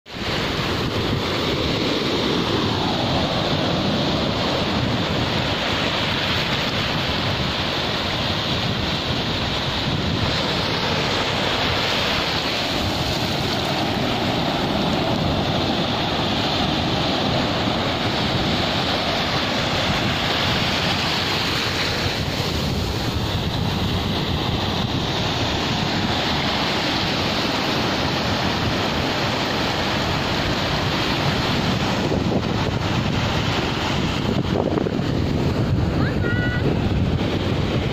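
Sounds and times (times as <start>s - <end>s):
small waves breaking on sand: 0.1s - 37.9s
wind buffeting microphone: 0.1s - 37.9s.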